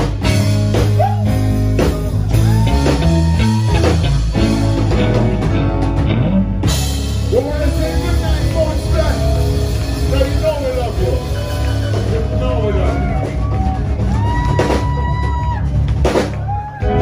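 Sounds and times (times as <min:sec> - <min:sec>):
bass guitar: 0:00.0 - 0:17.0
drum kit: 0:00.0 - 0:17.0
electric guitars: 0:00.0 - 0:17.0.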